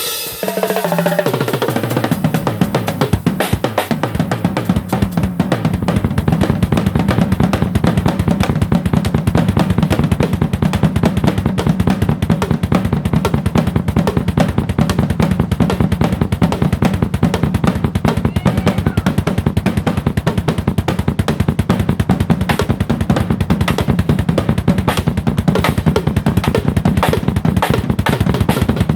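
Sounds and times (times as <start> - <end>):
drum kit played fast: 0.0 - 28.9.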